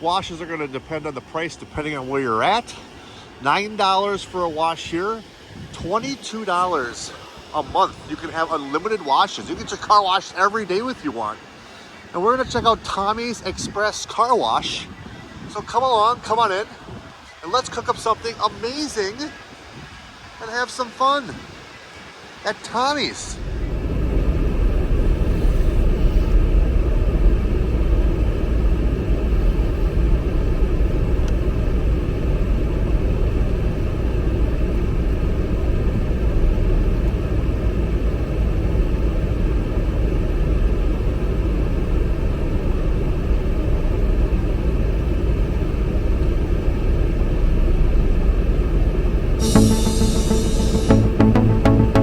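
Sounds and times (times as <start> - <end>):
car wash low rumble: 0.0 - 14.8, 23.3 - 52.0.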